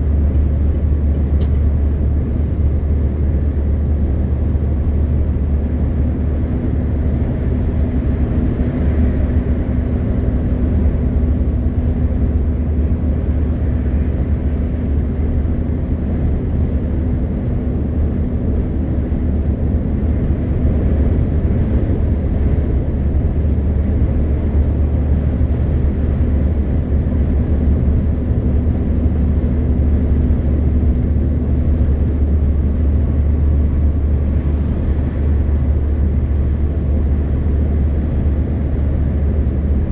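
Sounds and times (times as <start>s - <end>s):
road and tyre noise: 0.0s - 39.9s
truck diesel engine cruising: 0.0s - 39.9s.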